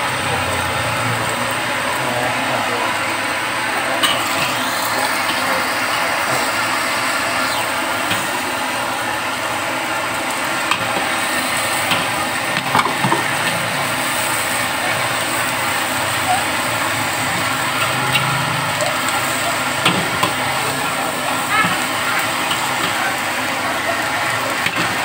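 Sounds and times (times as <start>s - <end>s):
eggs frying with hiss: 0.0s - 25.0s.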